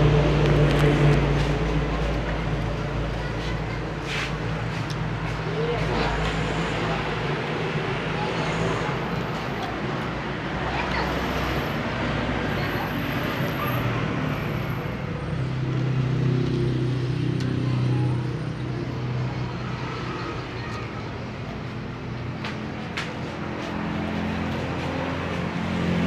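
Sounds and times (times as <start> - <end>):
road traffic rush: 0.0 - 26.0
vehicle engine hum: 0.0 - 26.0.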